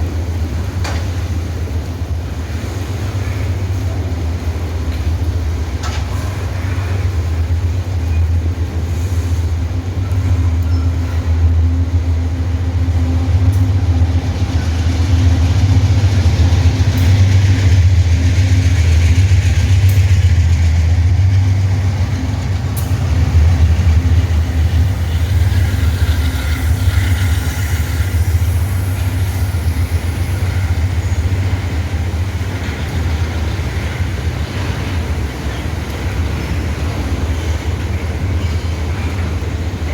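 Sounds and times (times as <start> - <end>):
deep diesel engine drone: 0.0 - 39.9
freight train passing: 0.0 - 39.9.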